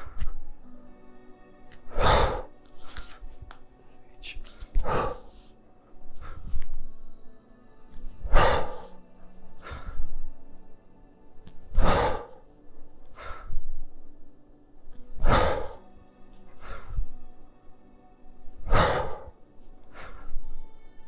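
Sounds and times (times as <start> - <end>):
soft breath: 0.0 - 0.7, 1.6 - 21.0
soft background music: 0.0 - 21.0.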